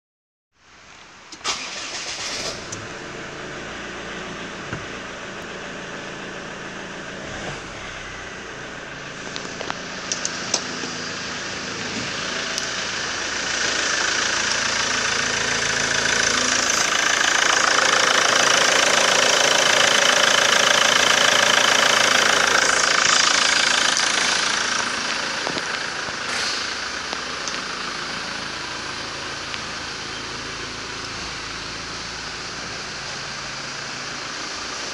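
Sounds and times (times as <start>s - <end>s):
diesel engine starting and running: 0.7s - 34.9s.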